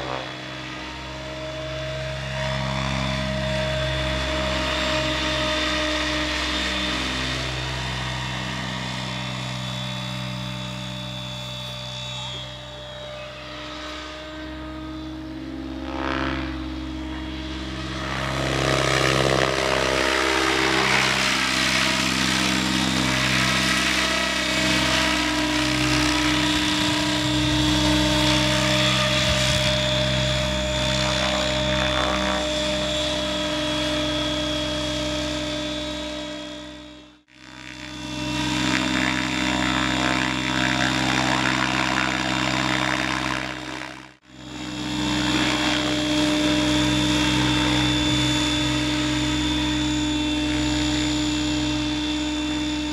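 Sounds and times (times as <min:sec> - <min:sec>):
model helicopter rotors whining: 0:00.0 - 0:52.9.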